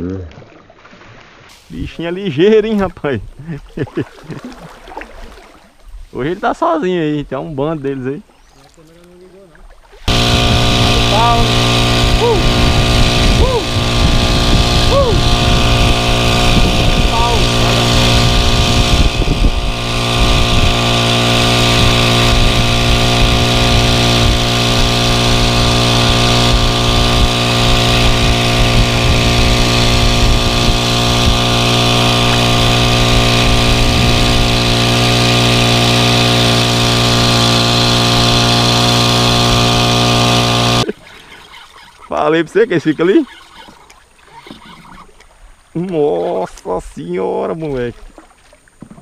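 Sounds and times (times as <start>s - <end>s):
small outboard motor running: 3.4s - 5.9s, 7.0s - 49.0s.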